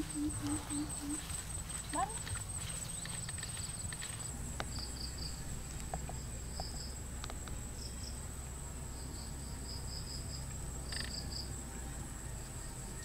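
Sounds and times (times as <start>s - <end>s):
crickets trilling: 0.0s - 13.0s
low steady hum: 0.0s - 13.0s.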